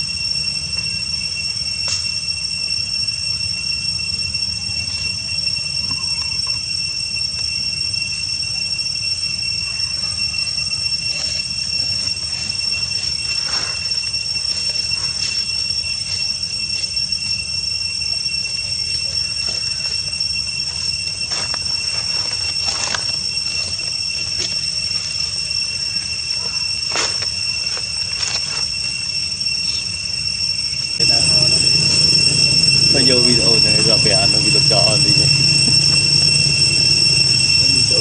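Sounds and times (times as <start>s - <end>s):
insect chorus droning: 0.0s - 38.0s.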